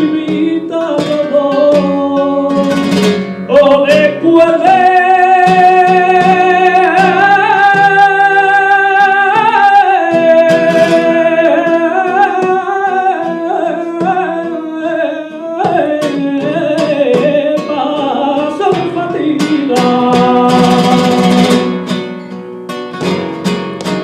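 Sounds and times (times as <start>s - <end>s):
flamenco singer: 0.0s - 24.0s
strummed flamenco guitar: 0.0s - 24.0s.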